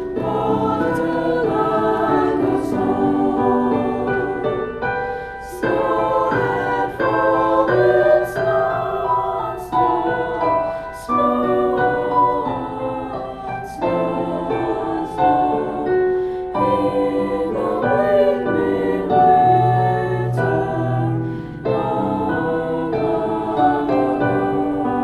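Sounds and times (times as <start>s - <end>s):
choir singing held notes: 0.0s - 25.0s
organ or piano accompaniment: 0.0s - 25.0s.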